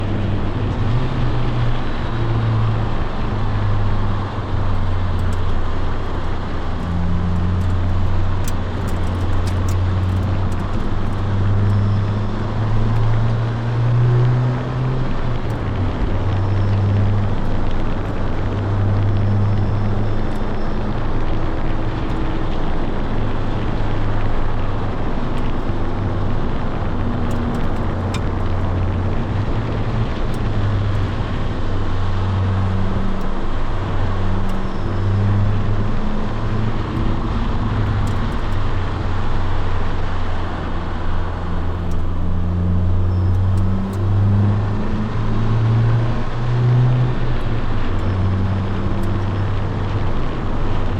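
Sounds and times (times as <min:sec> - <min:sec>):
car engine revving: 0:00.0 - 0:50.9
road noise: 0:00.0 - 0:50.9.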